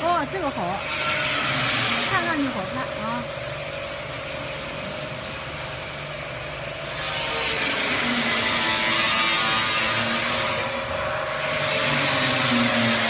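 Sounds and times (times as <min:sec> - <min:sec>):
machine mechanical hum: 0:00.0 - 0:13.0.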